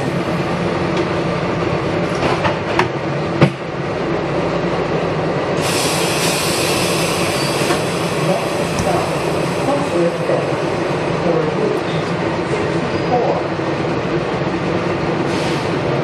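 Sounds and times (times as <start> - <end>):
subway car rumble: 0.0 - 16.0.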